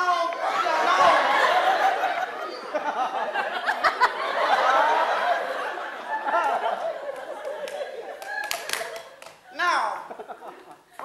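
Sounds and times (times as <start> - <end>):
audience laughing: 0.3 - 9.3, 10.0 - 11.0.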